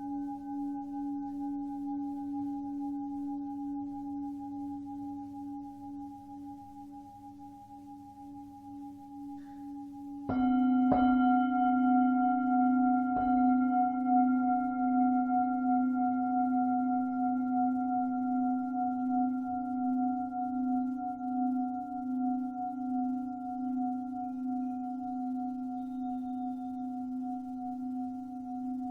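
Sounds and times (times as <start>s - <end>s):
singing bowl ringing with pulsing hum: 0.0s - 28.9s.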